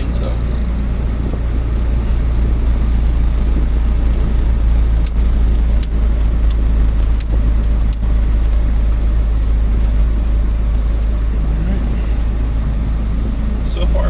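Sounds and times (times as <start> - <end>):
engine low rumble from cab: 0.0 - 14.0.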